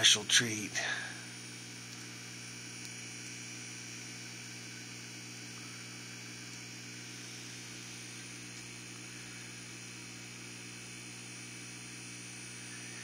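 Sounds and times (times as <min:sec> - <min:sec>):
aquarium equipment humming: 0:00.0 - 0:13.0.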